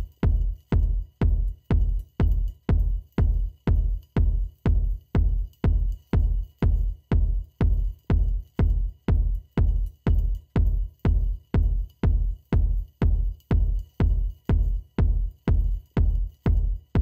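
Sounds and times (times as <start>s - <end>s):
electronic music with kick drum: 0.0s - 17.0s.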